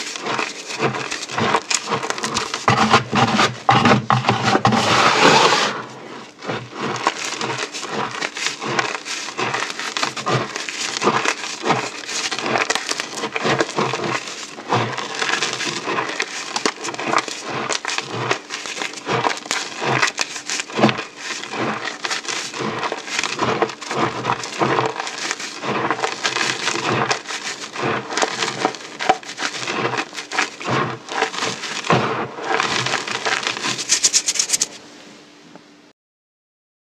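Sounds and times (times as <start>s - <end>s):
beads and chalk crunching: 0.0s - 34.8s.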